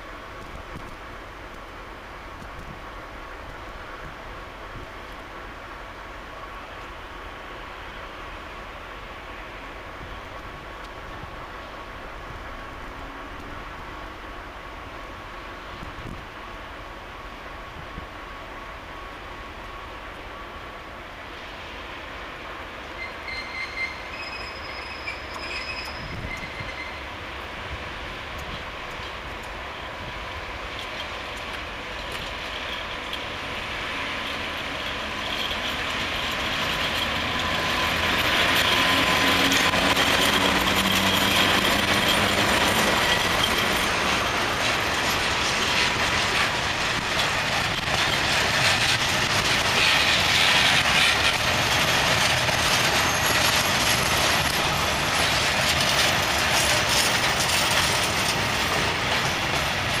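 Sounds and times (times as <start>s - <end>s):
freight train wheels rolling: 0.0s - 60.0s.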